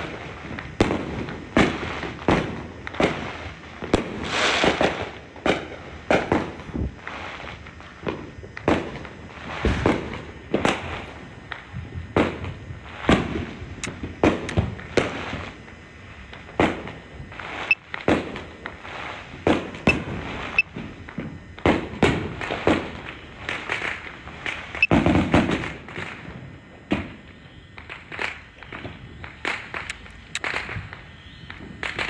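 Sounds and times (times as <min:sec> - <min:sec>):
fireworks bangs with echo: 0:00.0 - 0:15.6, 0:16.4 - 0:27.2
distant fireworks pops and crackles: 0:00.0 - 0:32.0.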